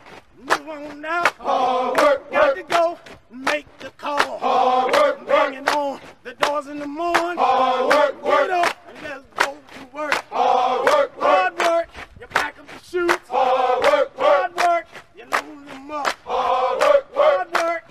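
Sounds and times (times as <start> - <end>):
men chanting a work song: 0.4 - 17.9.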